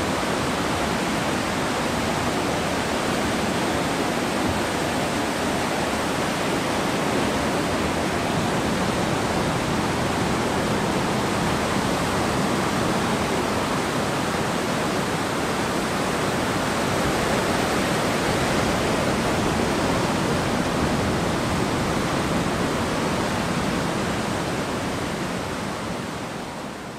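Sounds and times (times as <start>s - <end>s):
waves breaking on shore: 0.0s - 26.9s.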